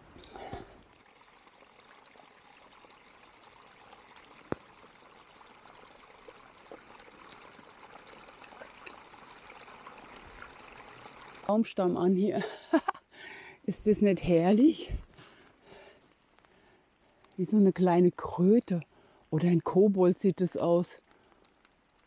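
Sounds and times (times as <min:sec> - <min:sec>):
brook trickling: 0:00.0 - 0:12.4, 0:13.8 - 0:22.0.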